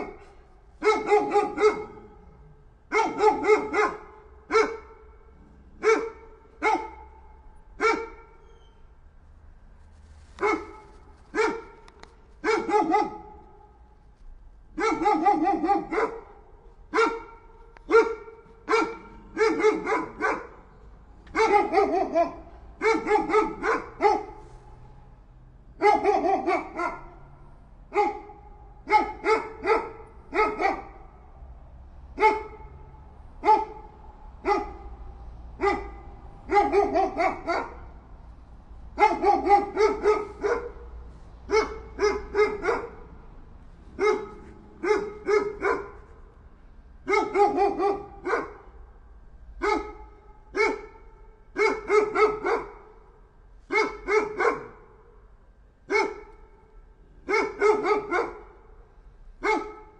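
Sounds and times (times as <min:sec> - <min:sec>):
dog barking: 0:00.0 - 0:08.7, 0:10.4 - 0:13.8, 0:14.7 - 0:24.5, 0:25.8 - 0:31.2, 0:32.1 - 0:38.0, 0:39.0 - 0:43.2, 0:43.9 - 0:46.2, 0:47.0 - 0:48.8, 0:49.6 - 0:53.1, 0:53.7 - 0:55.2, 0:55.9 - 0:56.6, 0:57.2 - 0:58.8, 0:59.4 - 0:59.9.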